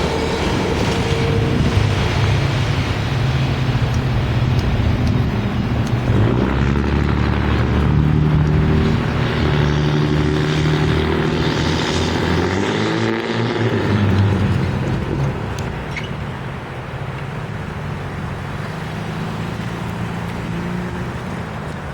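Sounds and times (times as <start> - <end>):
heavy diesel engine droning: 0.0 - 21.9.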